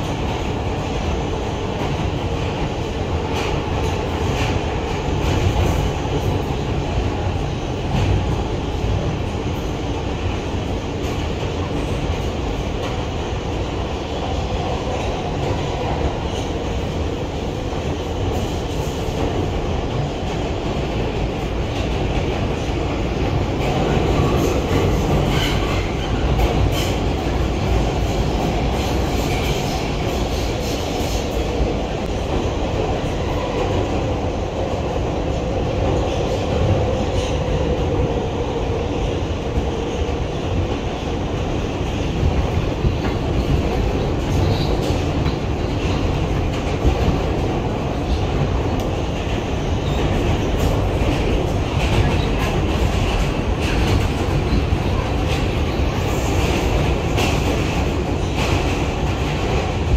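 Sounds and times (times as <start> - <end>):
subway wheels rumbling on rail: 0.0 - 59.9.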